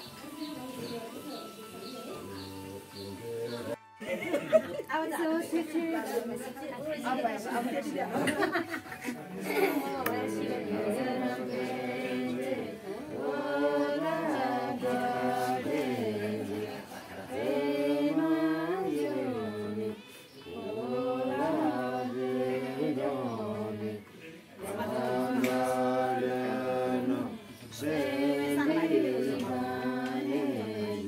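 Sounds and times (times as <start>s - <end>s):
unaccompanied voices singing: 0.0s - 31.0s.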